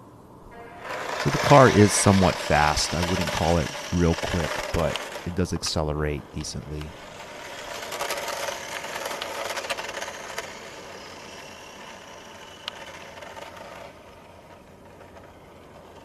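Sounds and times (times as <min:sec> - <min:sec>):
toy car motor whirring: 0:00.6 - 0:05.8, 0:06.4 - 0:16.0.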